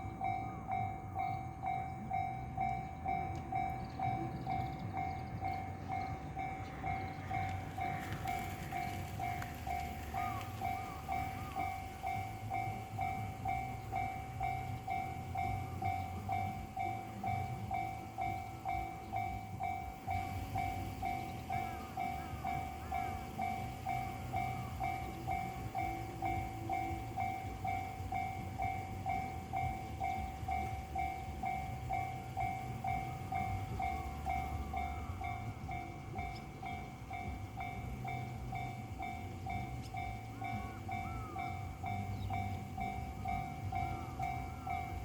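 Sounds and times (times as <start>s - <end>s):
level-crossing bell dinging: 0.0s - 45.0s
low train rumble: 0.0s - 45.0s.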